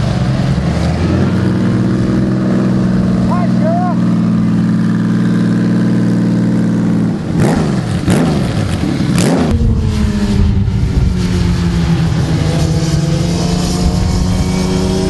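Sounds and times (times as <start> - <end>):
motorcycle engine running: 0.0 - 15.0
sport bike engine revving: 0.0 - 15.0.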